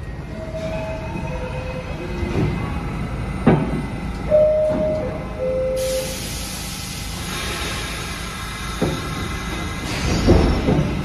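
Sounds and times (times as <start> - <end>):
low train rumble: 0.0 - 11.0.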